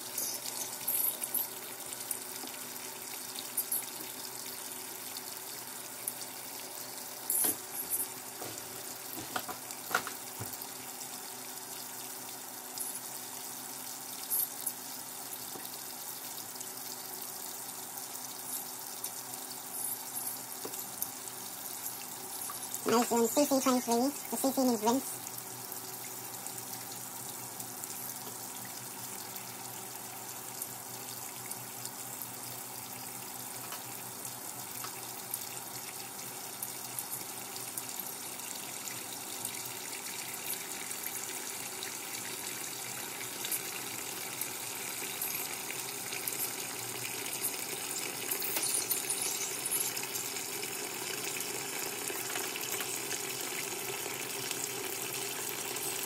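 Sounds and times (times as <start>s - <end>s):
water running in washing machine: 0.0s - 56.0s.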